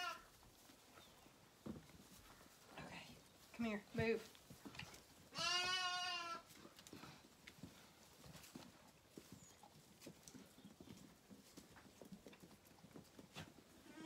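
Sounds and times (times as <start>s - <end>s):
lamb hooves on straw: 0.0s - 14.0s.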